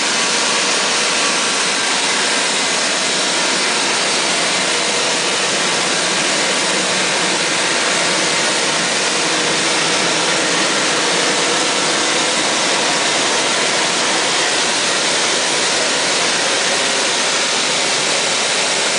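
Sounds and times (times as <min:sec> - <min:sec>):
grinding machine hiss: 0:00.0 - 0:18.9.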